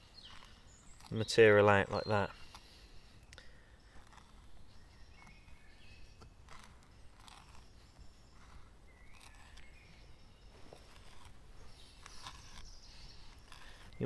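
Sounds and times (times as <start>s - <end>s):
knife scraping wood: 0.0s - 14.0s.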